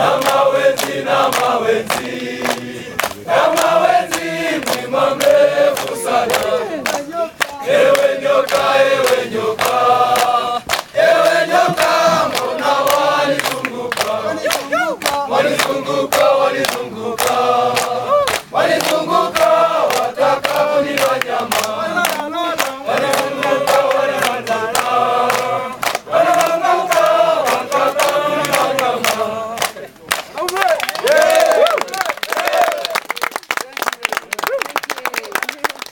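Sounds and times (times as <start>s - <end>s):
men singing together: 0.0s - 29.9s
hand clapping: 0.1s - 35.9s.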